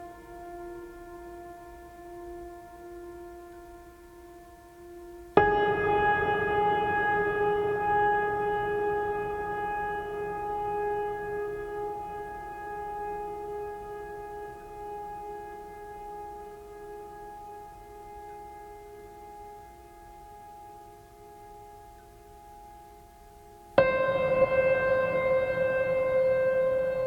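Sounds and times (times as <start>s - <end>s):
droning music chord: 0.0s - 27.0s.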